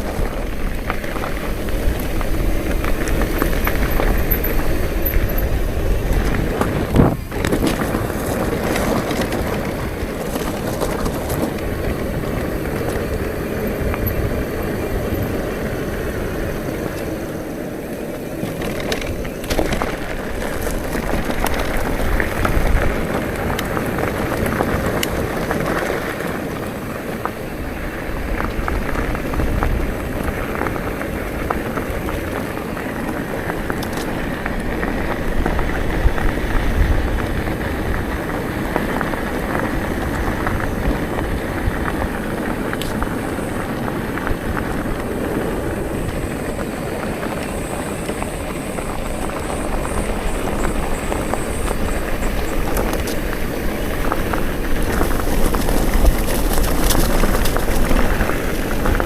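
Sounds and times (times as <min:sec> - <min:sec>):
bicycle tyres rolling on road: 0:00.0 - 0:59.0
wind on microphone: 0:00.0 - 0:59.0.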